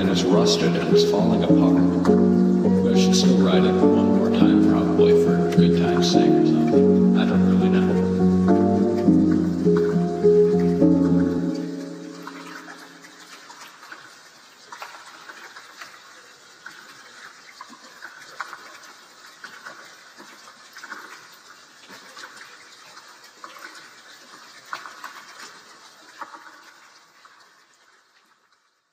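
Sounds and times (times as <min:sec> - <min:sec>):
rain hiss: 0:00.0 - 0:28.1
raindrop clicks: 0:00.0 - 0:28.7.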